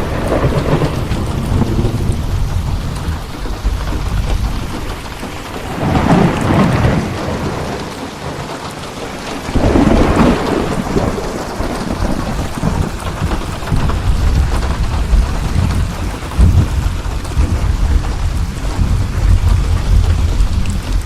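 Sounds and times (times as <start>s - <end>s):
heavy rain: 0.0s - 21.0s
rolling thunder: 0.0s - 21.0s.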